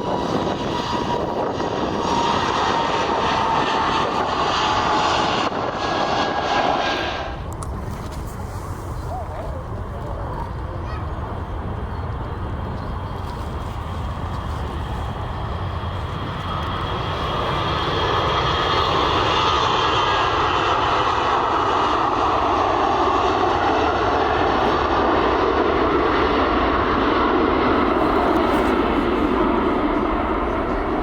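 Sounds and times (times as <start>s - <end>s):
aircraft engines roaring: 0.0s - 31.0s.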